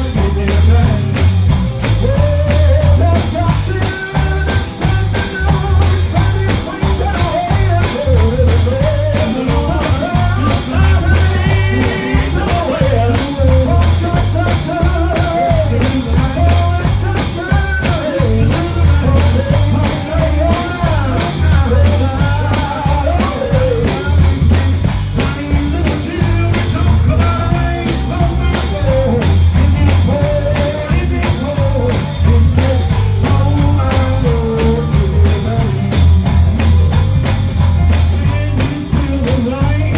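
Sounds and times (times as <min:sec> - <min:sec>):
gospel band playing: 0:00.0 - 0:39.9
person singing: 0:00.0 - 0:39.9
steady drum beat: 0:00.0 - 0:39.9
strong bass line: 0:00.0 - 0:39.9.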